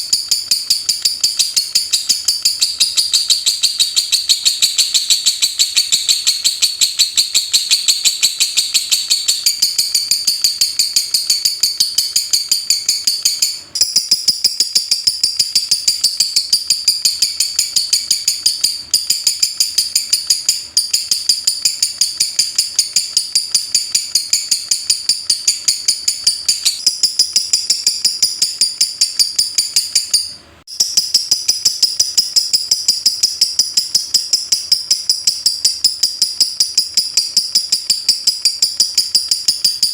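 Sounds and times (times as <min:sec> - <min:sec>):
bird chattering in sharp chirps: 0:00.0 - 0:39.9.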